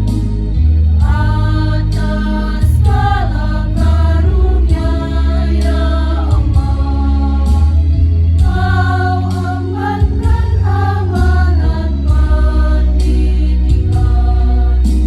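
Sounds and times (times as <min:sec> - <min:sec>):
steady low bass: 0:00.0 - 0:15.0
choir singing long notes: 0:01.0 - 0:15.0.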